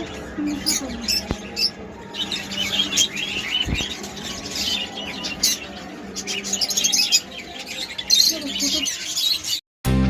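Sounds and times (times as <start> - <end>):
budgerigars chattering: 0.0 - 9.6.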